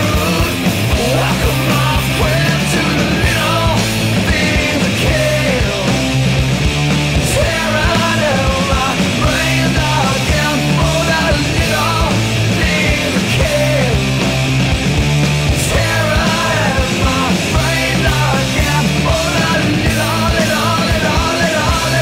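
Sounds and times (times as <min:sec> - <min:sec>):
rock song with sung vocal: 0:00.0 - 0:22.0.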